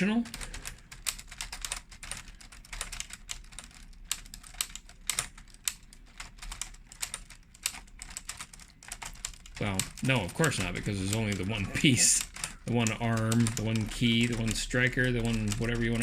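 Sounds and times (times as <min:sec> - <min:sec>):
plastic typewriter keys clicking: 0:00.3 - 0:16.0.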